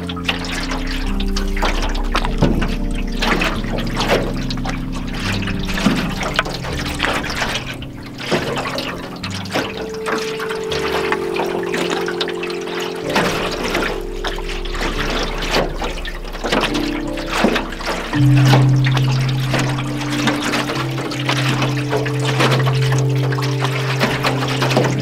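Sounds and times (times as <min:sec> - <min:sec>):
soft ambient music: 0:00.0 - 0:25.0
waves lapping against canoe hull: 0:00.0 - 0:25.0.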